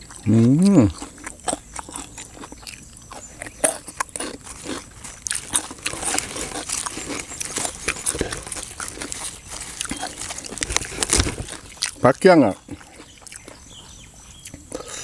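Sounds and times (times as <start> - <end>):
close chewing with wet mouth clicks: 0.0 - 15.0
crunching while eating: 0.0 - 15.0.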